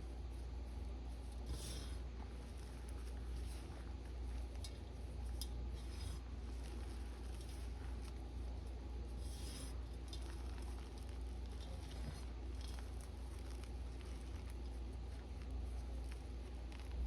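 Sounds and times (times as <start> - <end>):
chalk crunching and crumbling: 0.0 - 17.0.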